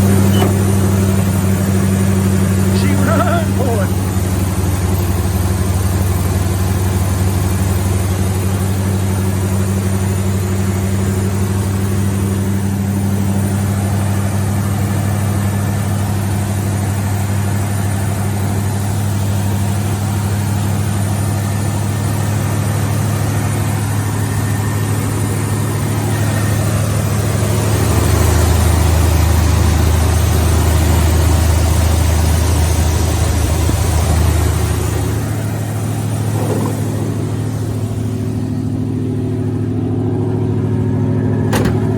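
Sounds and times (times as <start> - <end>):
pickup truck engine idling: 0.0 - 41.9.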